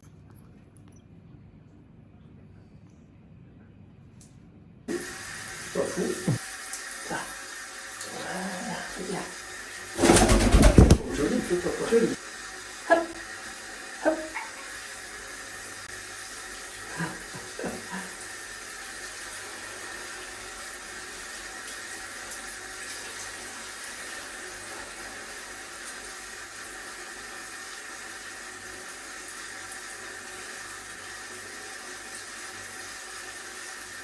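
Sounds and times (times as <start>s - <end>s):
shower water running: 4.9s - 34.0s.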